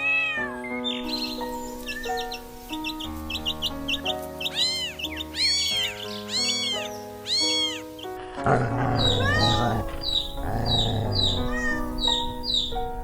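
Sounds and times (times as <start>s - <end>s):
soft slow background music: 0.0s - 13.0s.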